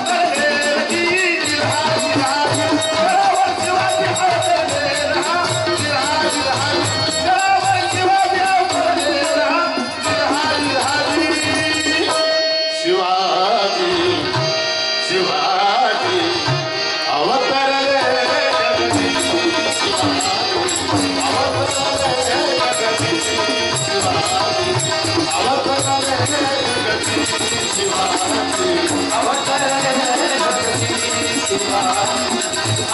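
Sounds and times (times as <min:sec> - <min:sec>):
voices singing: 0:00.0 - 0:12.3, 0:15.1 - 0:32.9
harmonium: 0:00.0 - 0:32.9
tabla beating: 0:00.0 - 0:32.9.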